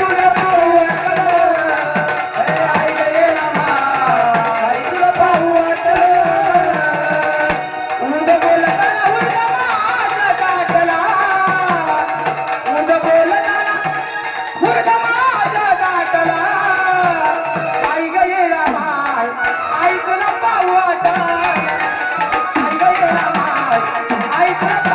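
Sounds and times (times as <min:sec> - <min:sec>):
drums beaten in fast rhythm: 0:00.0 - 0:24.9.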